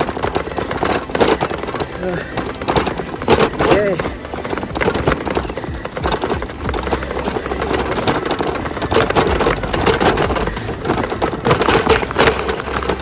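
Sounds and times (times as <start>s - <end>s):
bike rattling over bumps: 0.0s - 13.0s.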